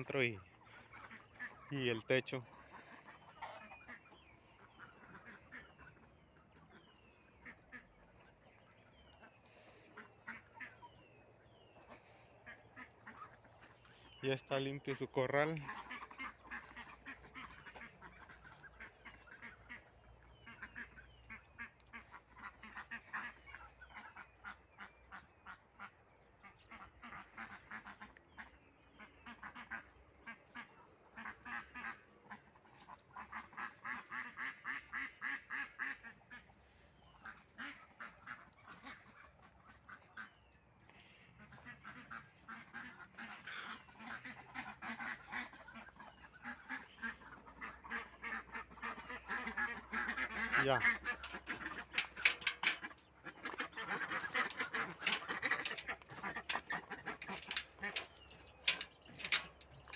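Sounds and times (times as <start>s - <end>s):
ducks quacking: 0.0s - 59.9s.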